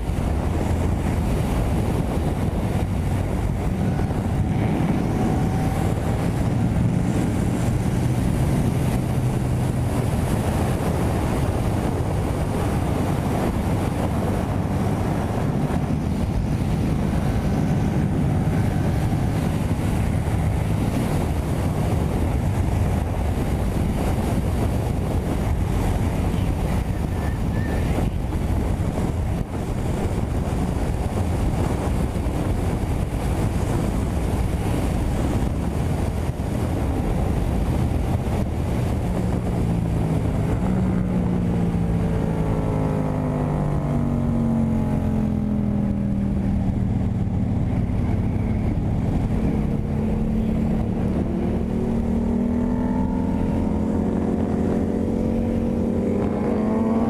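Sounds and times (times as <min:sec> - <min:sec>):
motorcycle engine drone: 0:00.0 - 0:57.0
wind noise on microphone: 0:00.0 - 0:57.0.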